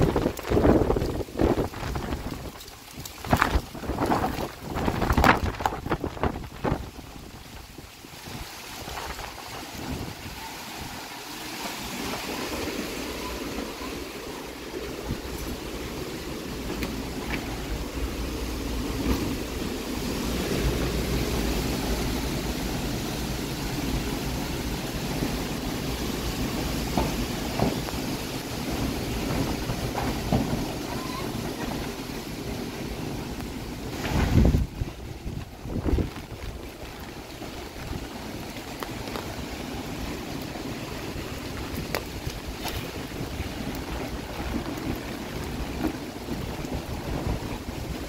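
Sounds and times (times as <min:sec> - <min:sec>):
rain striking an umbrella: 0:00.0 - 0:48.0
wind gusts buffeting microphone: 0:00.0 - 0:48.0.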